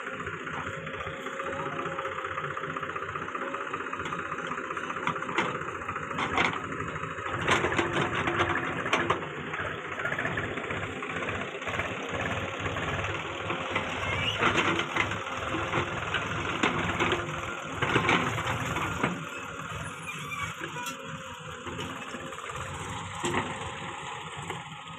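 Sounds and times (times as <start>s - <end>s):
diesel engines running: 0.0s - 24.9s.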